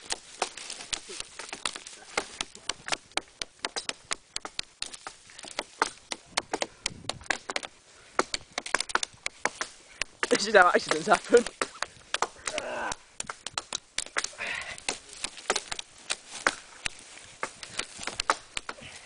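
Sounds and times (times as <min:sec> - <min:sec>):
axes chopping wood: 0:00.0 - 0:18.8.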